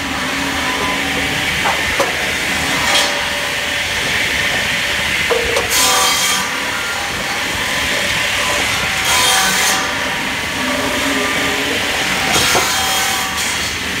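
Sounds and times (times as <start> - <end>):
firewood cutting machine running: 0.0 - 14.0.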